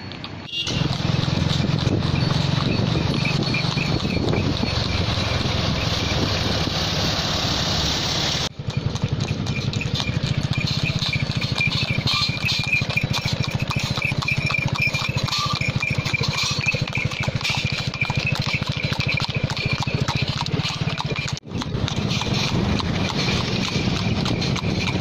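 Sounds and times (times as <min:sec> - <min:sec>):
horse hooves on asphalt: 0:00.0 - 0:06.8, 0:08.4 - 0:25.0
cart wheels rattling: 0:00.0 - 0:07.2, 0:08.4 - 0:25.0.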